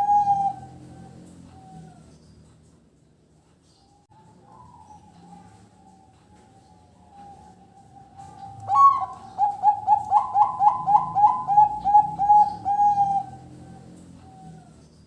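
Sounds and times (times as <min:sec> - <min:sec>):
dove cooing: 0:00.0 - 0:02.1, 0:04.2 - 0:15.0.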